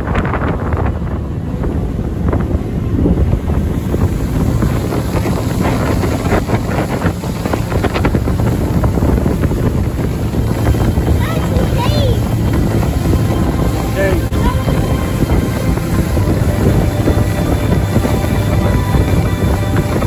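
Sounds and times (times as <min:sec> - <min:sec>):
boat engine: 0:00.0 - 0:20.0
wind buffeting microphone: 0:00.0 - 0:20.0.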